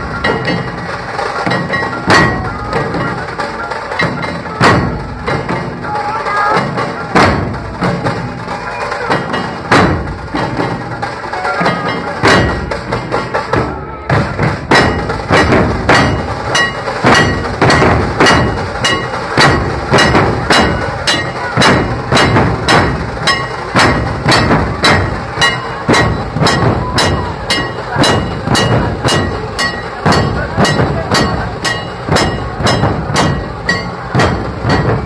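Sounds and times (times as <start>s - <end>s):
dense drumming rattle: 0.0s - 35.0s
loud drum strokes: 0.0s - 35.0s.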